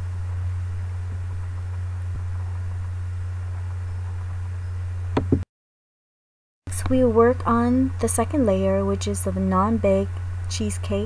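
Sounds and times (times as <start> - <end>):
low electrical hum with hiss: 0.0 - 5.4, 6.7 - 11.0.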